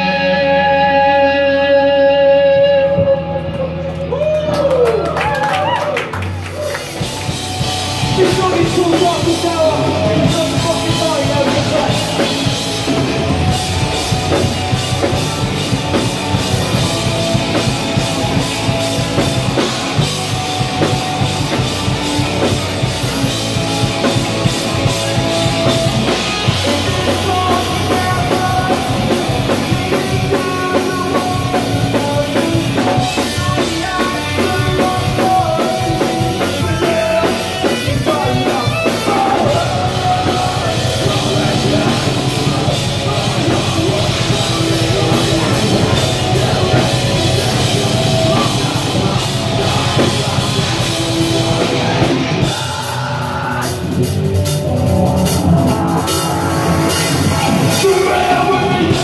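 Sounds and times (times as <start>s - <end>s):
bass guitar: 0.0s - 59.0s
electric guitar: 0.0s - 59.0s
drum kit: 2.5s - 59.0s.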